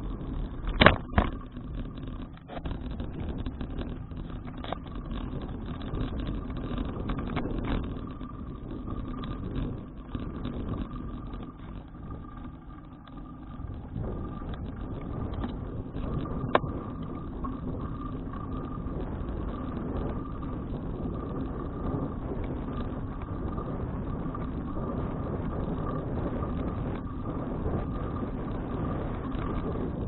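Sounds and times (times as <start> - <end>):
bicycle rumble: 0.0 - 30.0
faint steady tone: 0.0 - 30.0
wind buffeting microphone: 0.0 - 30.0.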